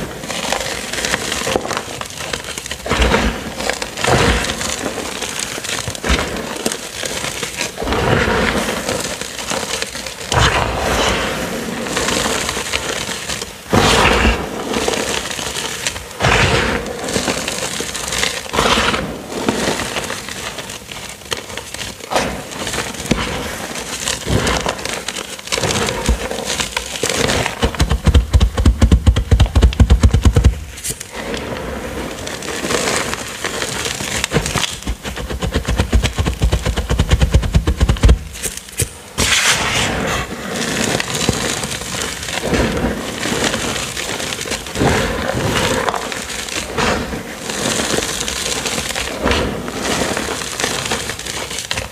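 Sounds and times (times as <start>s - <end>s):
hands crunching chalk powder: 3.9s - 31.4s, 32.2s - 51.8s.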